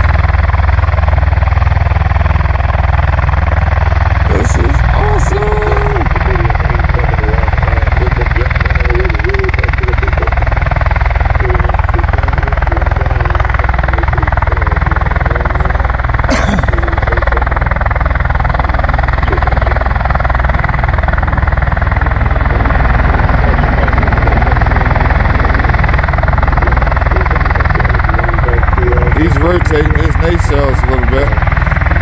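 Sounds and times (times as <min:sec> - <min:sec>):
aircraft engines loud low thrum: 0:00.0 - 0:32.0.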